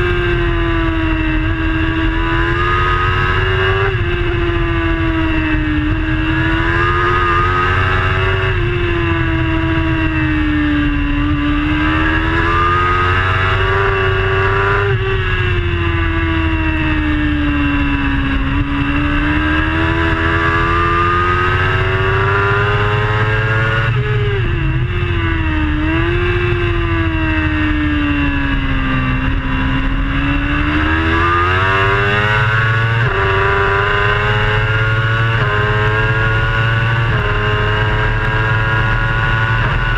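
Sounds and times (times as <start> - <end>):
motorbike engine at high revs: 0.0 - 39.9.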